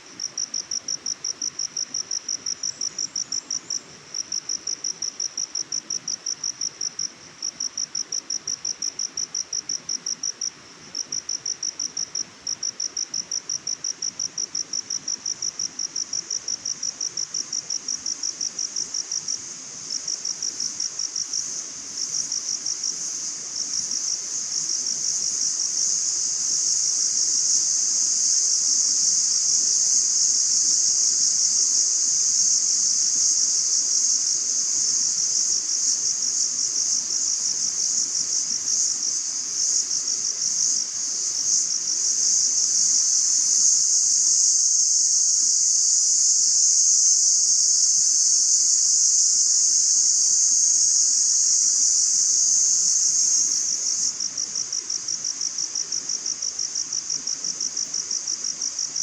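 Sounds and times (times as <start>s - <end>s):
high-pitched insect chorus: 0.0s - 59.0s
rapid pulsing insect trill: 0.0s - 59.0s.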